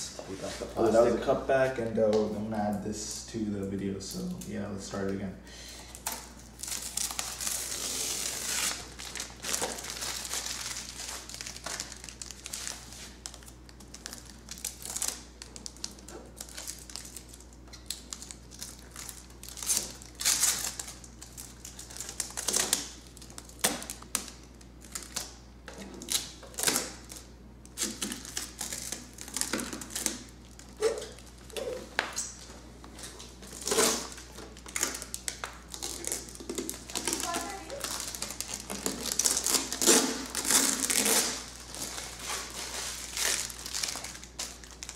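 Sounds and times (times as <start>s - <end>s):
plastic packaging crinkling: 5.9s - 25.4s, 26.0s - 32.4s, 33.0s - 44.9s.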